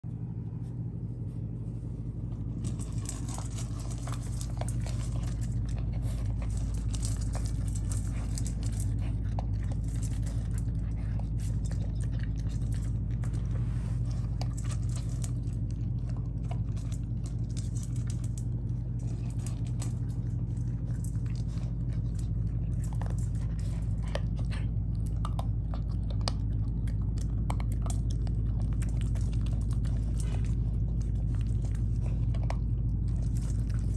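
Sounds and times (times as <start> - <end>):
steady low hum: 0.0 - 33.9
puppy crunching kibble in metal bowl: 1.9 - 33.9.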